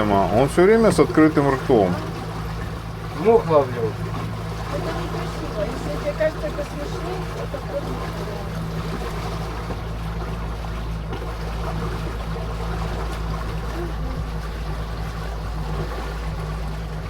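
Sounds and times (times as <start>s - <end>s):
boat motor humming: 0.0s - 17.0s
water rushing along hull: 0.0s - 17.0s.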